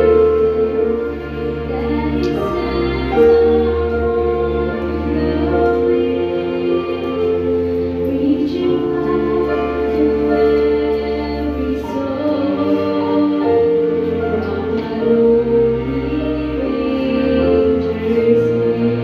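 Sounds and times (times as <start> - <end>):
church choir singing: 0.0 - 19.0
sustained chord accompaniment: 0.0 - 19.0.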